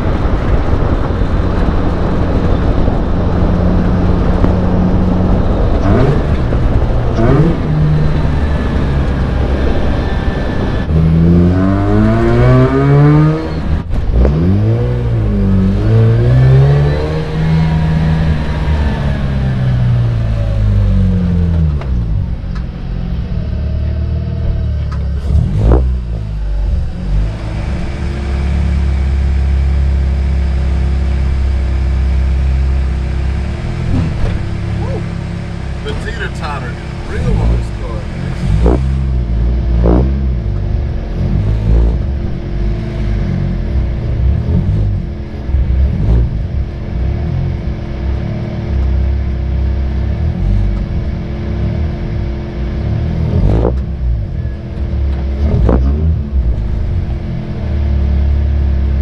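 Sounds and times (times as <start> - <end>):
rotary engine revving: 0.0 - 59.0.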